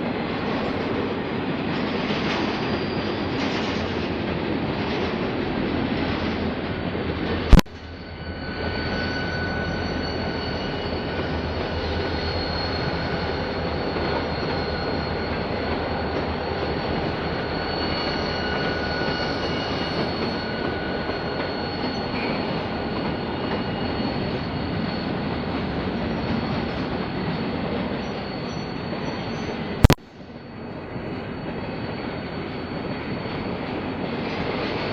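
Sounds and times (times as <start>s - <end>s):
train wheels rumbling on track: 0.0s - 34.9s
high wheel squeal: 1.8s - 4.1s, 7.8s - 34.9s.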